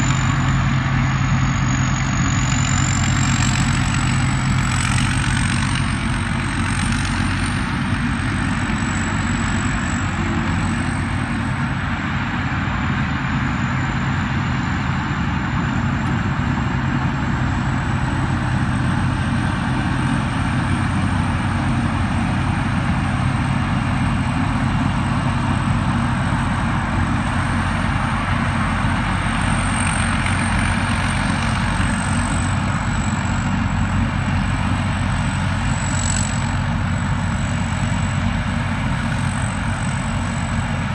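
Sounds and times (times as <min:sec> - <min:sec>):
combine harvester engine and machinery: 0:00.0 - 0:40.9.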